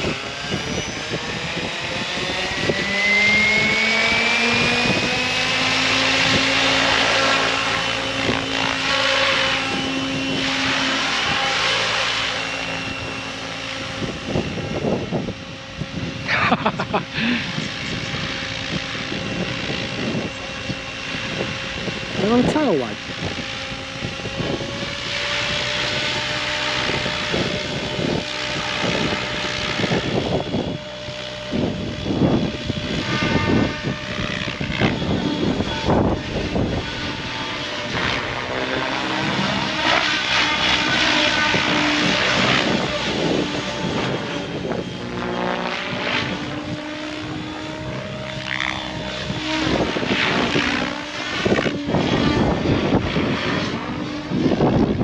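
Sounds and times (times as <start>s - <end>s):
rc helicopter rotor whine: 0.0s - 55.0s.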